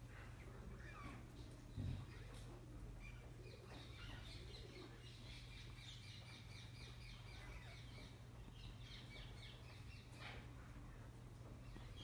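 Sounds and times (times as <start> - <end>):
parrots chirping faintly: 0.0 - 12.0.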